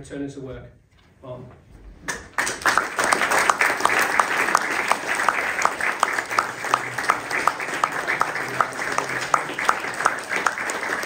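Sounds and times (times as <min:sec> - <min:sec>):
nearby person clapping: 0:02.1 - 0:11.0
small audience applauding: 0:02.1 - 0:11.0.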